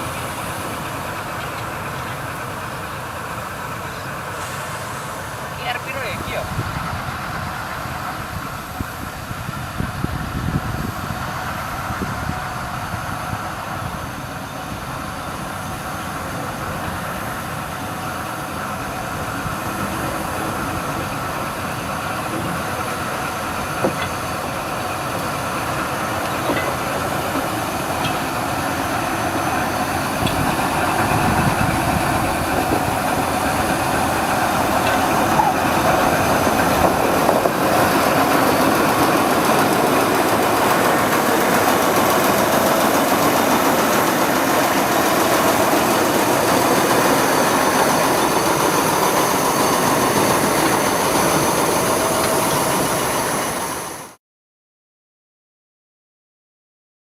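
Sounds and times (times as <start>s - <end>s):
locomotive engine droning with whine: 0.0s - 54.2s.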